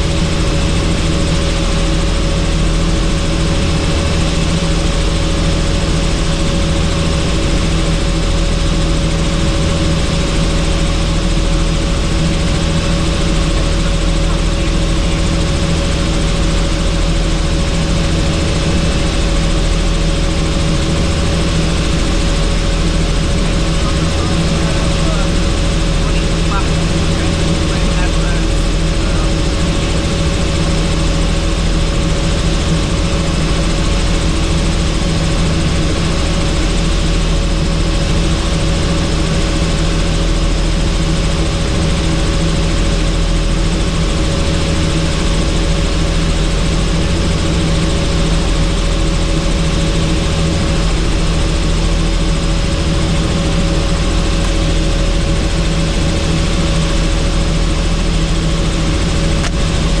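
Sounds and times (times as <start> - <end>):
helicopter rotor and engine drone: 0.0 - 60.0.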